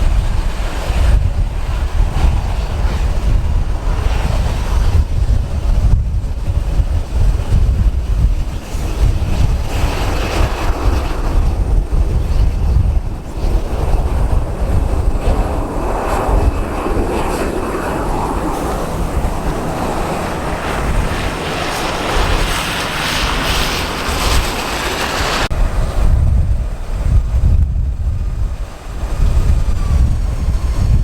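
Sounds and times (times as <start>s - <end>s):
jet airliner engines passing: 0.0s - 31.0s
wind rumbling on microphone: 0.0s - 31.0s.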